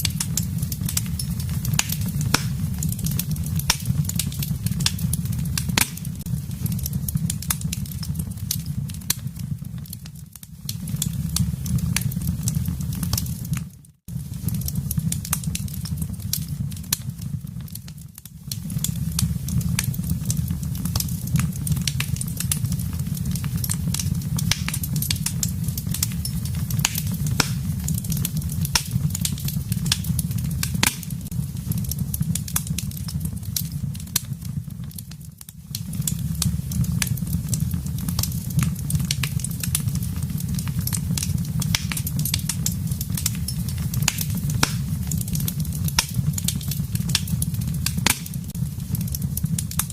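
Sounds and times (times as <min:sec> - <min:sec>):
fire popping and snapping: 0:00.0 - 0:49.9
low rumble of burning: 0:00.0 - 0:49.9
wood fire crackling: 0:00.0 - 0:49.9.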